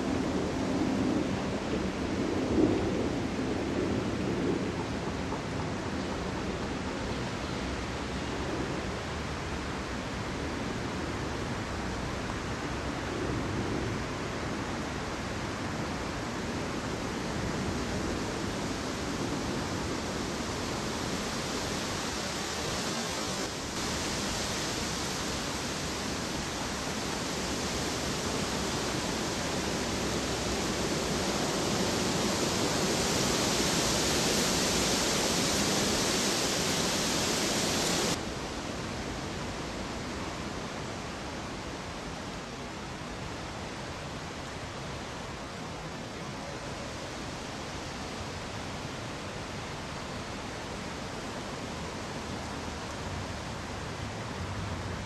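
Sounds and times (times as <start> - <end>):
recording noise hiss: 0.0 - 55.0.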